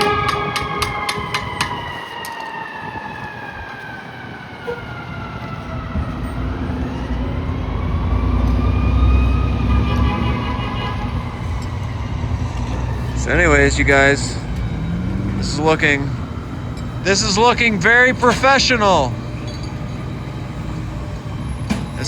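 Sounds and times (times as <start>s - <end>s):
electric train motors whining: 0.0s - 22.0s.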